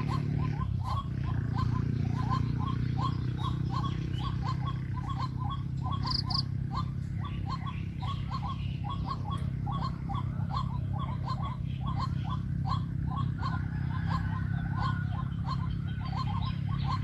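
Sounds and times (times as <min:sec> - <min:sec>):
bird calling rapid short notes: 0:00.0 - 0:17.0
steady low hum: 0:00.0 - 0:17.0.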